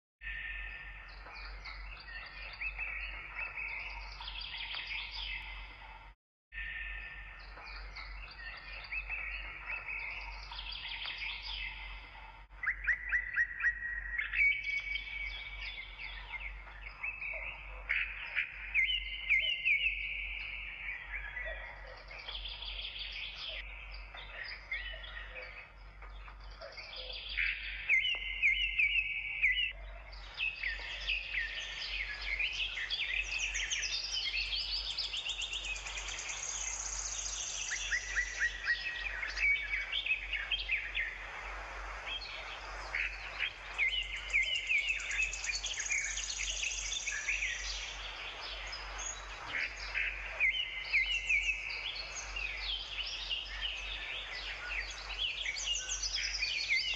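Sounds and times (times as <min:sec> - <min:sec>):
birds chirping and trilling: 0:00.2 - 0:56.9.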